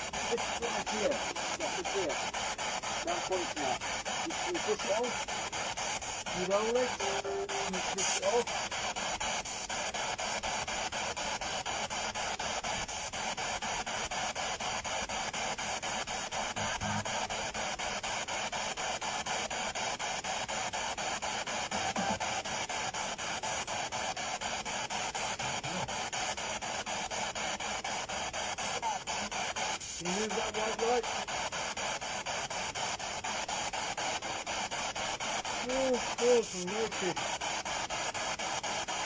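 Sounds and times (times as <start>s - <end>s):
radio static pulsing: 0.0s - 39.0s.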